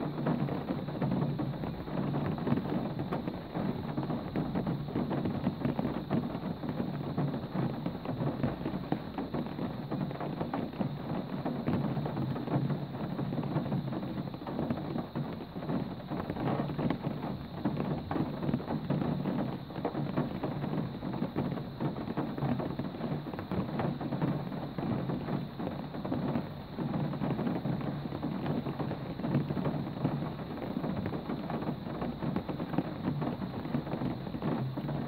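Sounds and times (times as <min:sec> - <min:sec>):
rain drops pattering: 0:00.0 - 0:35.0.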